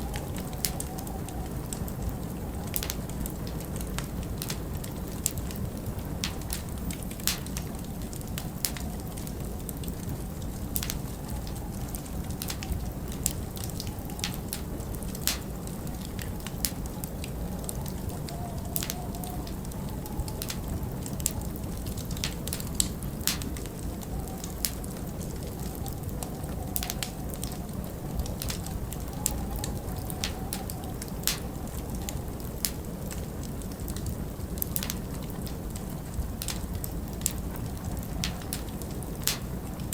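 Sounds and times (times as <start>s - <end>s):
storm wind rumbling: 0.0s - 39.9s
wood fire crackling and popping: 0.0s - 39.9s.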